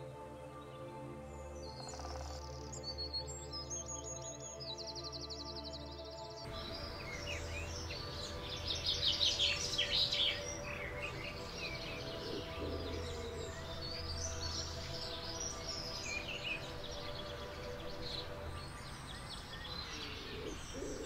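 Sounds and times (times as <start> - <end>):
birds chirping and trilling: 0.0 - 21.0
faint steady background tones: 0.0 - 21.0.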